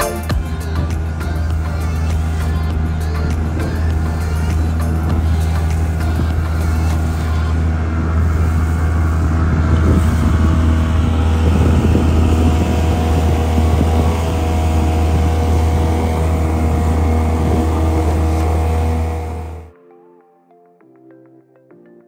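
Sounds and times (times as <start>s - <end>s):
outboard motor running: 0.0s - 19.7s
water rushing in wake: 0.0s - 19.7s
wind on microphone: 0.4s - 19.7s.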